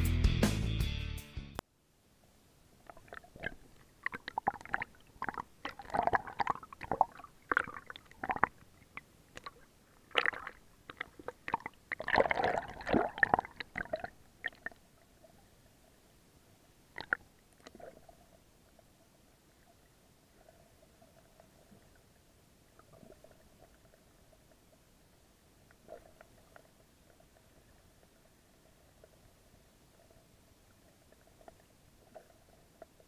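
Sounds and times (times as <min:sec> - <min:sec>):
faint steady hum: 0:01.6 - 0:33.0
underwater water sloshing: 0:02.8 - 0:16.1, 0:17.0 - 0:33.0.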